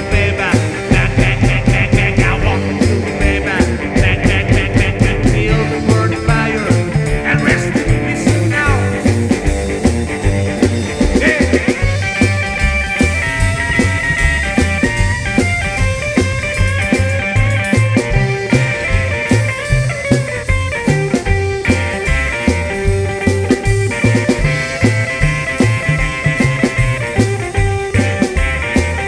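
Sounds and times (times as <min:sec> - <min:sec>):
rock music with electric guitar: 0:00.0 - 0:29.0.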